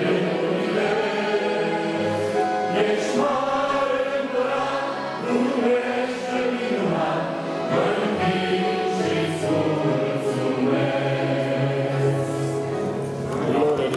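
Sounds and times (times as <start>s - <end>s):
choir and congregation singing hymn: 0.0s - 13.6s
piano: 0.0s - 13.9s.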